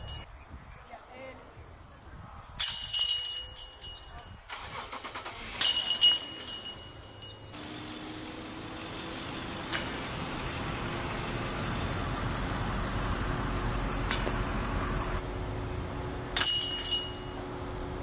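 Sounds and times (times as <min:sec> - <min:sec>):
passing road traffic: 0:00.0 - 0:00.3, 0:02.6 - 0:18.0.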